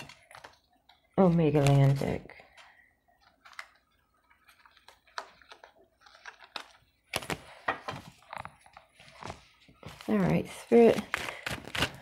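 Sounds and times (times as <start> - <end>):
paper cards rustling: 0.0 - 12.0.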